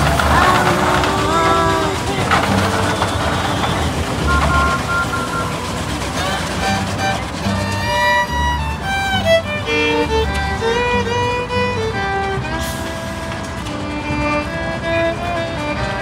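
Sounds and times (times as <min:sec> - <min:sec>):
fiddle melody: 0:00.0 - 0:16.0
strummed acoustic guitar: 0:00.0 - 0:16.0
upright bass: 0:00.0 - 0:16.0.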